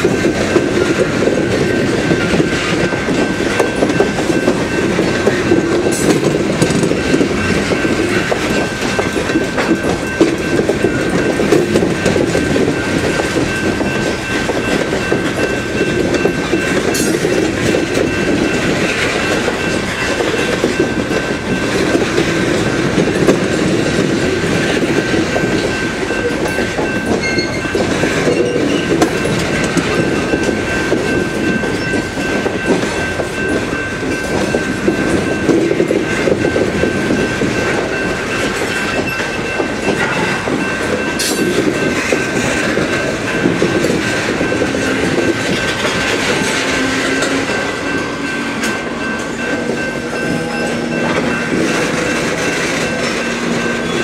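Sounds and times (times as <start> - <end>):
clickety-clack over rail joints: 0.0 - 54.0
train wheels rumbling: 0.0 - 54.0.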